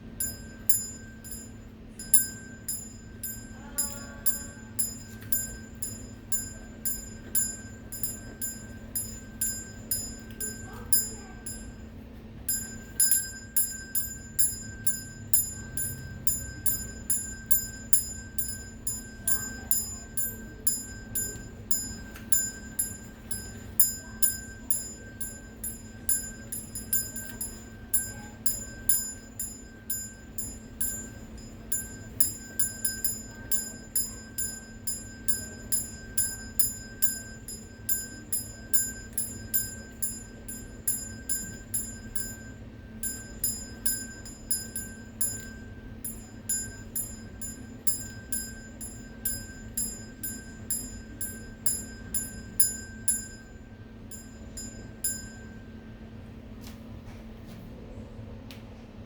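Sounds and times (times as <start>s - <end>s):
steady hum: 0.0s - 59.0s
small high-pitched bell strikes: 0.2s - 55.8s.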